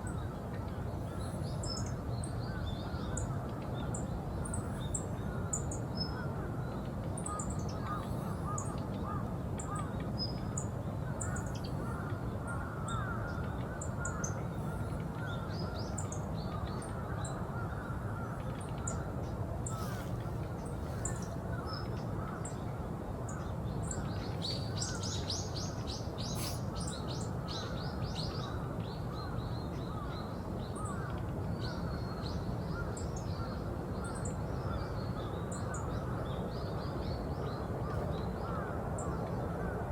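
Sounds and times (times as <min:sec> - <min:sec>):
lower repeated bird calls: 0:00.0 - 0:36.8.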